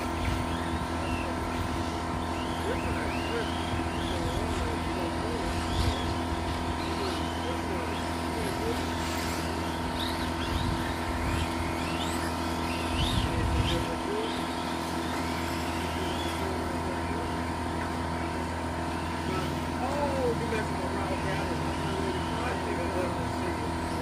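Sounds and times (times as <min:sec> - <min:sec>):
rc car electric motors whining: 0:00.0 - 0:24.0.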